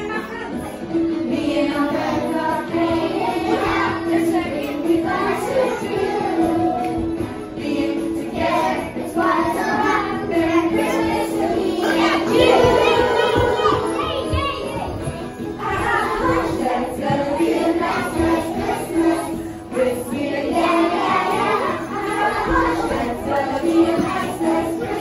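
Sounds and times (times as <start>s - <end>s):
music: 0.0s - 25.0s
children singing together: 1.0s - 25.0s.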